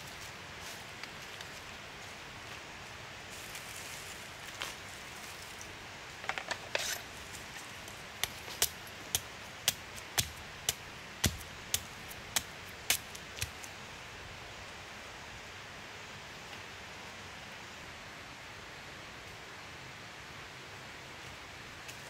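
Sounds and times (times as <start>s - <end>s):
rain-like hiss: 0.0s - 22.0s.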